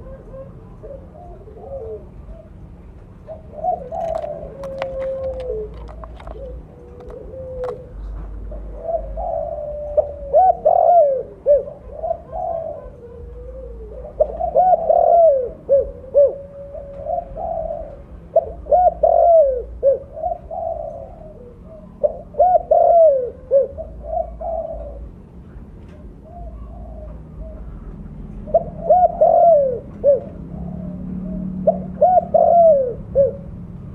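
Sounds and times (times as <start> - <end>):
dove cooing: 0.0 - 33.9.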